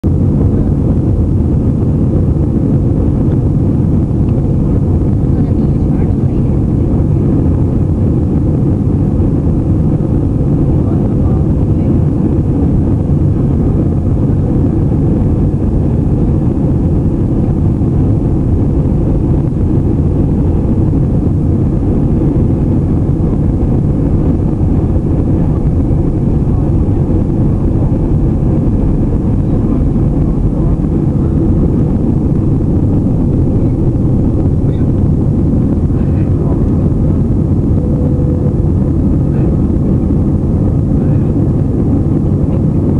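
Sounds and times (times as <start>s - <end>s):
airplane engines roaring: 0.0s - 42.9s.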